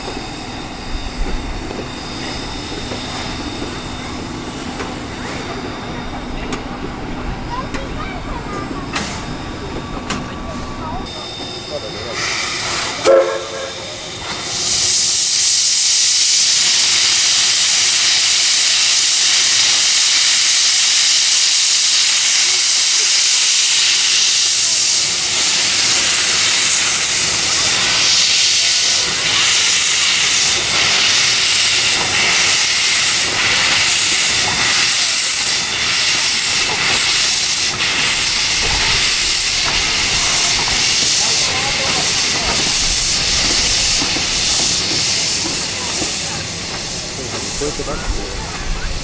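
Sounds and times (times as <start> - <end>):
steam locomotive hissing steam: 0.0 - 49.0.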